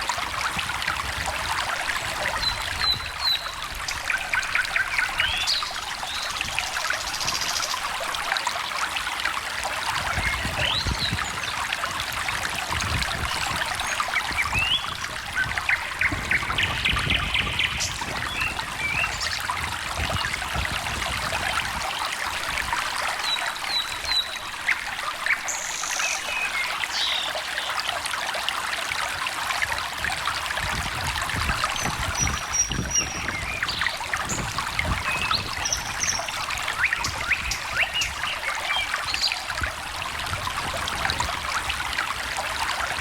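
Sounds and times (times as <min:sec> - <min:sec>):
stream trickling: 0:00.0 - 0:43.0.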